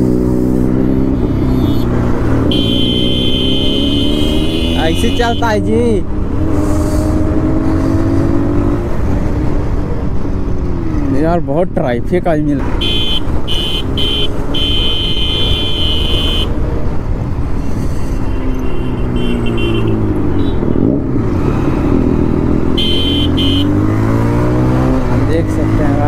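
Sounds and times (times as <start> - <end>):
motorcycle engines revving: 0.0 - 11.7, 12.4 - 26.0.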